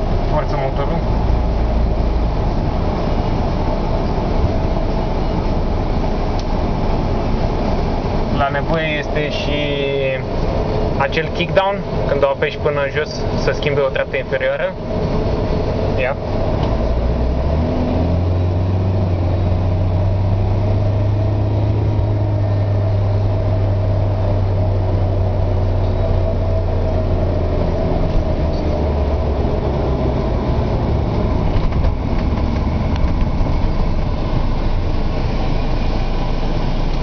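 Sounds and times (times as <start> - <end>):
car engine under full throttle: 0.0 - 37.0
road noise: 0.0 - 37.0.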